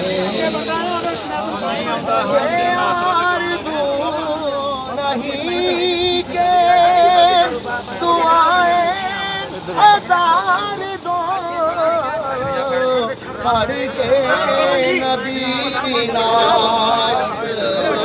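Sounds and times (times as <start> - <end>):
person singing unaccompanied: 0.0 - 18.0.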